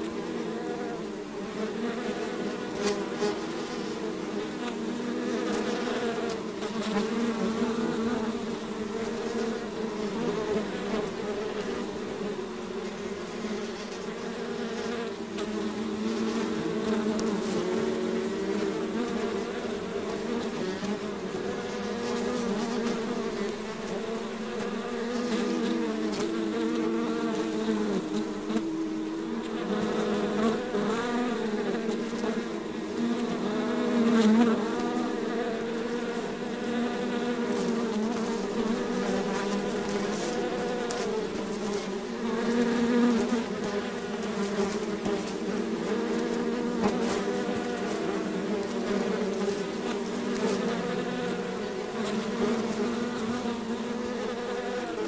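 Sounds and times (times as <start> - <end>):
swarm of bees buzzing: 0.0 - 55.0.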